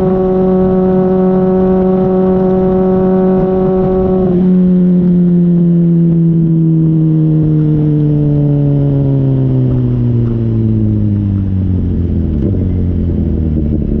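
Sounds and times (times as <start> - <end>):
motorcycle engine exhaust: 0.0 - 14.0.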